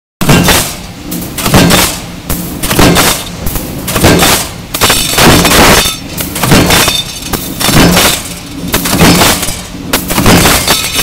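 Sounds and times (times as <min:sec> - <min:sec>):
metal stamping press crashing: 0:00.2 - 0:02.0, 0:02.6 - 0:11.0.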